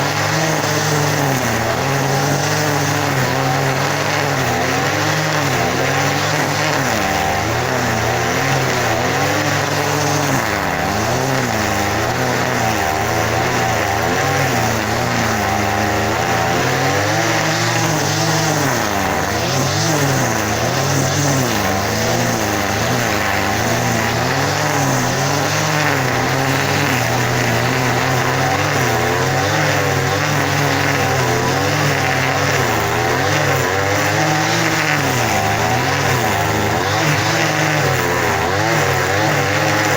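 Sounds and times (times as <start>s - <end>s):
engine running with wavering pitch: 0.0s - 39.9s.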